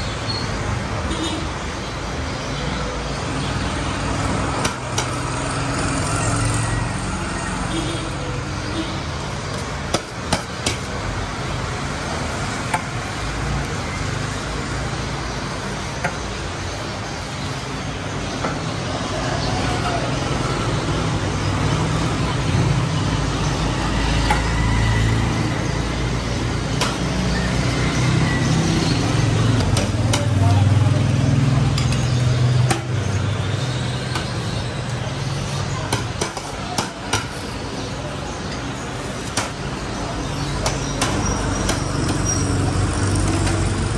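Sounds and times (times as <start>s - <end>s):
street traffic: 0.0s - 43.9s.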